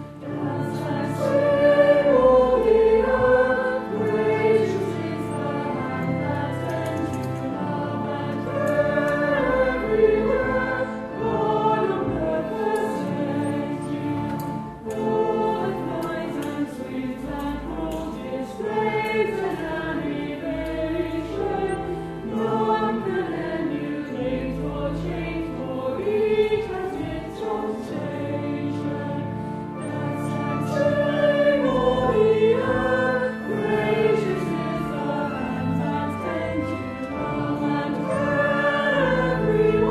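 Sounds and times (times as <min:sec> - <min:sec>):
choir singing sacred music: 0:00.0 - 0:39.9.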